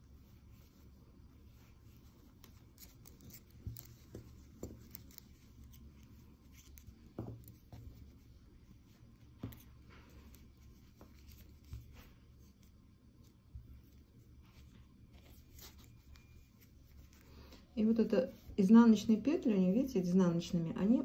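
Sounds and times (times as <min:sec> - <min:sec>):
yarn rubbing softly: 0:00.0 - 0:21.0.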